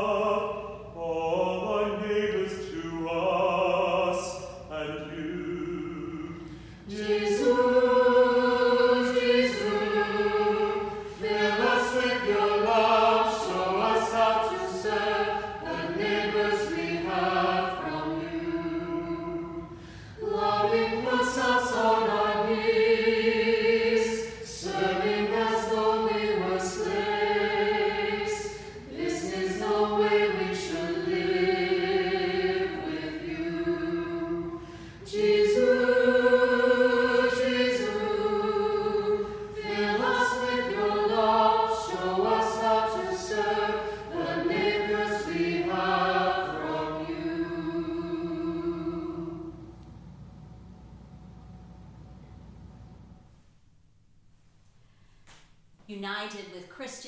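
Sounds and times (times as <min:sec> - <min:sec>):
choir singing a cappella: 0:00.0 - 0:49.8.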